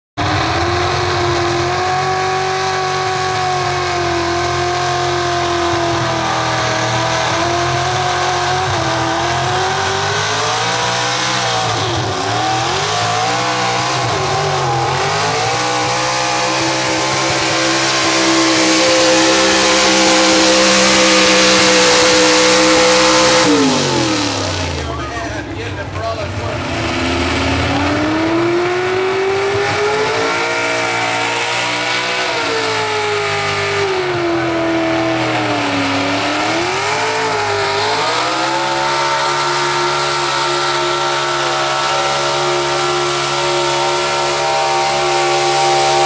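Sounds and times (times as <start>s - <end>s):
truck engine revving hard: 0.2s - 46.0s.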